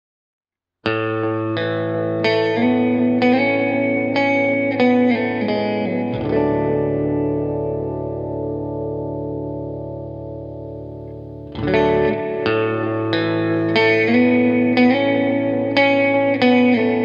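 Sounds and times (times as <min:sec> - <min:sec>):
guitar with effects playing: 0:00.8 - 0:17.0.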